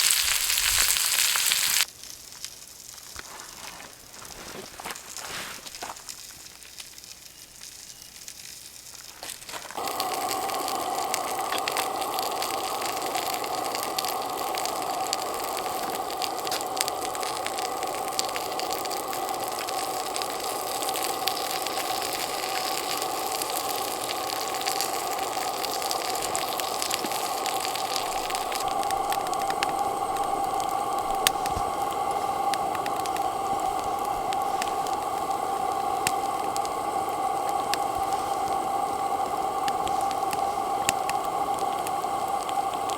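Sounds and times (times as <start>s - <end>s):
faint crackling: 0.0s - 42.9s
gas lantern hissing: 0.0s - 42.9s.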